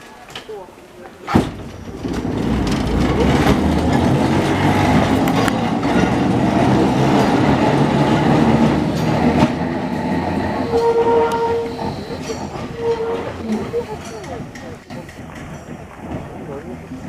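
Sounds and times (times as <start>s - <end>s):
tram motors growling: 0.0s - 17.0s
wheels clicking on track: 0.0s - 17.0s.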